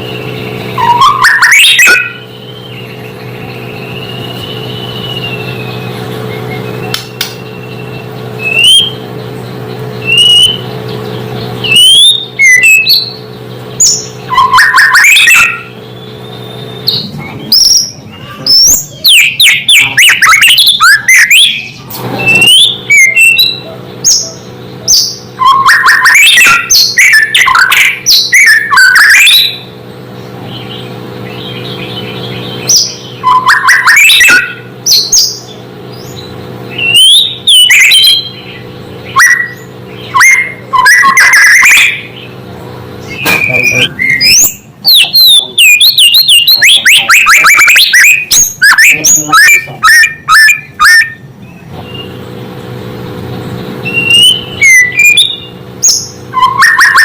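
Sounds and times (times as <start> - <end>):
bird singing whistled notes and trills: 0.0 - 57.0.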